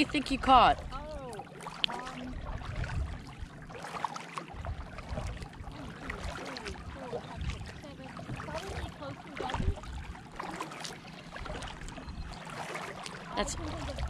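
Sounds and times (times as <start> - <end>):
wind rumble on microphone: 0.0 - 3.8, 4.5 - 10.4, 11.3 - 12.5, 13.3 - 14.0
water lapping against kayak hull: 0.0 - 14.0.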